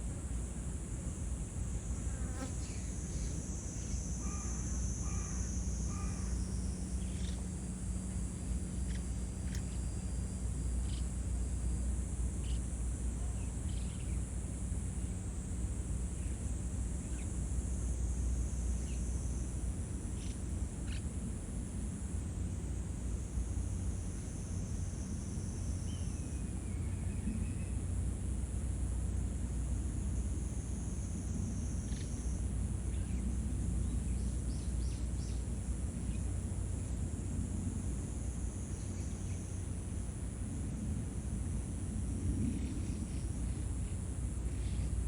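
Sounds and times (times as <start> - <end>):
high-pitched insect chorus: 0.1 - 45.0.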